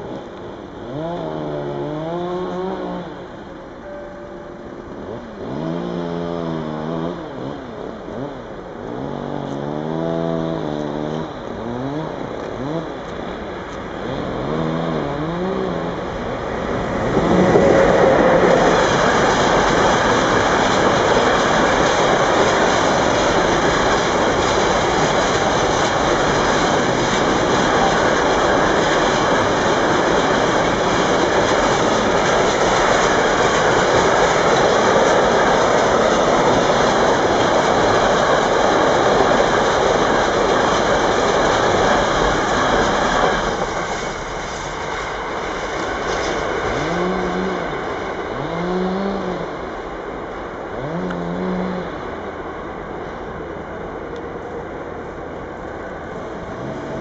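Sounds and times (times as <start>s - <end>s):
train wheels rumbling and clattering: 4.6s - 51.0s.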